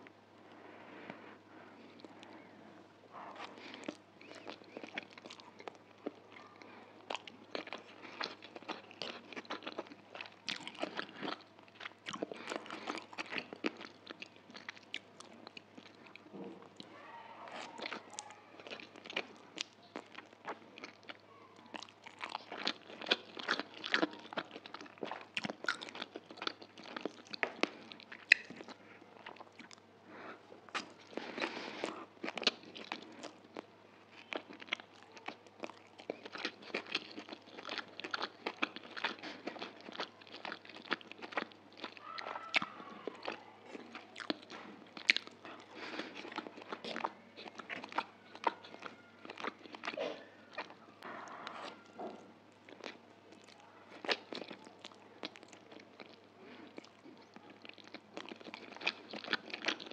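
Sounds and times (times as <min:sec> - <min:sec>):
wet chewing of noodles: 0:00.0 - 0:02.5, 0:03.1 - 0:16.9, 0:17.5 - 0:59.9.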